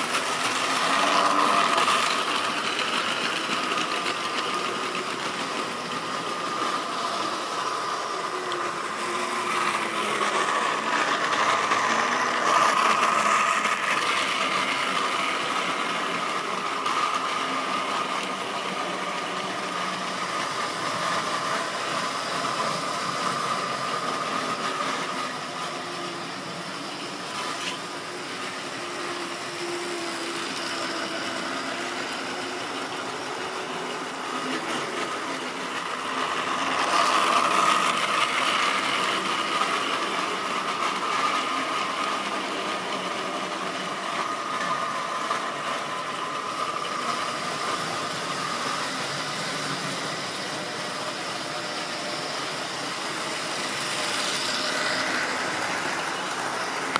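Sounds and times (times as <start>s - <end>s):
model locomotive motor whirring: 0.0s - 56.9s
model train wheels rattling: 0.0s - 56.9s.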